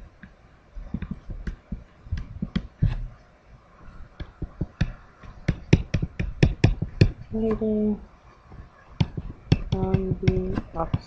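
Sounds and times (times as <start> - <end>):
stylus tapping and scratching: 0.0 - 3.2, 3.8 - 11.0.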